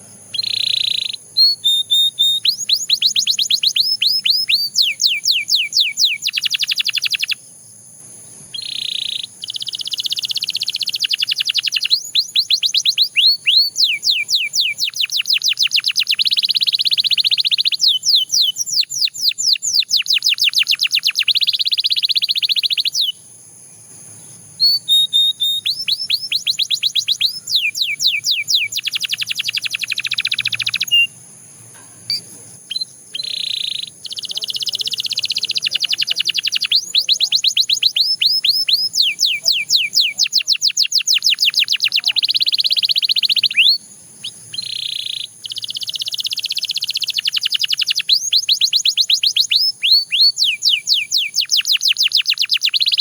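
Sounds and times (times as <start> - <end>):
canary singing fast trills: 0.0 - 53.0.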